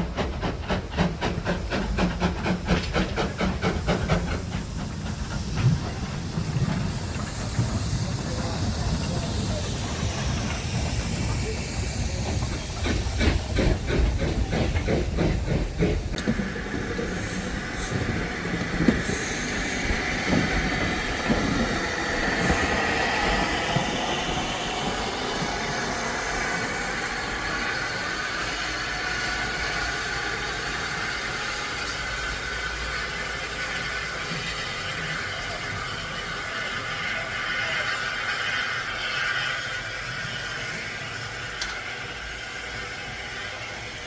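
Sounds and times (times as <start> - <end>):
steam locomotive exhaust beats: 0.0 - 44.0
train rumbling and hissing: 0.0 - 44.0.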